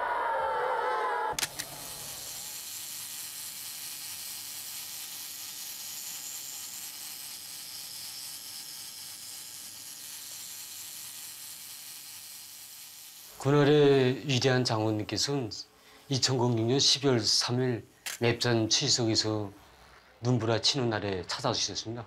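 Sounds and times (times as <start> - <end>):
steady hiss: 1.4 - 20.2.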